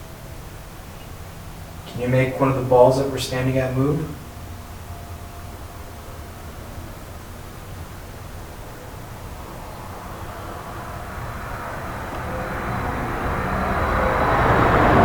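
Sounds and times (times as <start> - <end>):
passing vehicle: 0.0 - 15.0.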